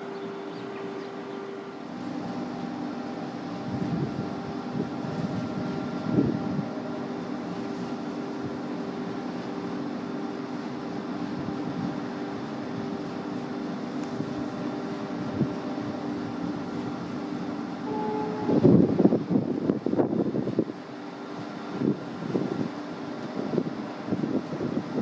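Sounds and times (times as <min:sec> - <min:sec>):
distant diesel train drone: 0:00.0 - 0:25.0
train rumbles: 0:00.0 - 0:25.0.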